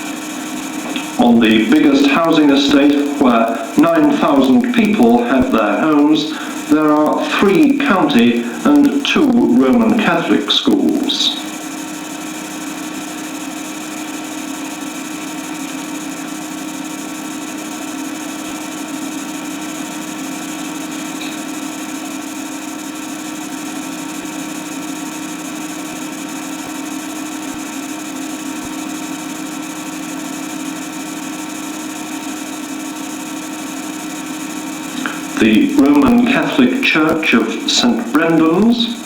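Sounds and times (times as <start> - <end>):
steady mechanical hum with hiss: 0.0 - 39.0.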